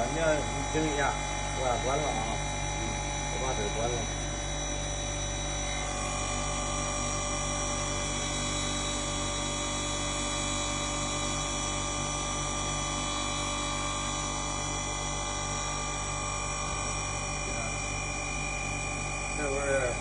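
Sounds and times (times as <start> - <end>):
grinding machine whine: 0.0 - 20.0
motor hum: 0.0 - 20.0.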